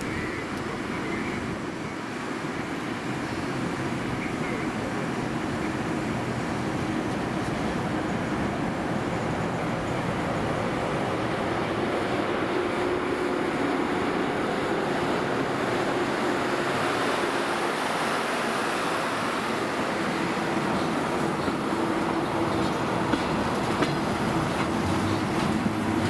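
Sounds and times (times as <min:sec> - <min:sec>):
electric locomotive passing: 0:00.0 - 0:26.0
steady rushing noise: 0:00.0 - 0:26.0.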